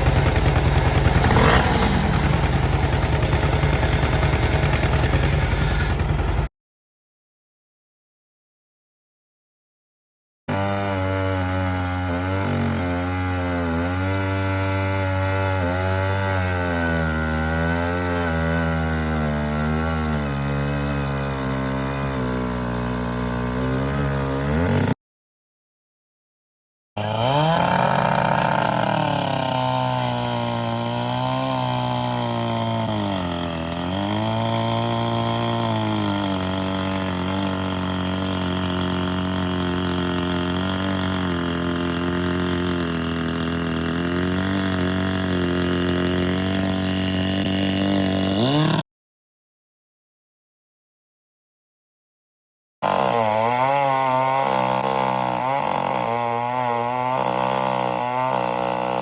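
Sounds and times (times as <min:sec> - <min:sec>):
chainsaw engine running and revving: 0:00.0 - 0:06.5, 0:10.5 - 0:25.0, 0:27.0 - 0:48.8, 0:52.8 - 0:59.0.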